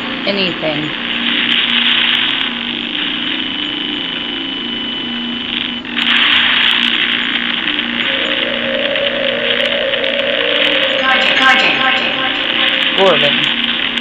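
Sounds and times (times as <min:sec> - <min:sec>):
hissing static: 0:00.0 - 0:14.0
chopped fragments of sound: 0:00.9 - 0:04.2, 0:05.5 - 0:14.0.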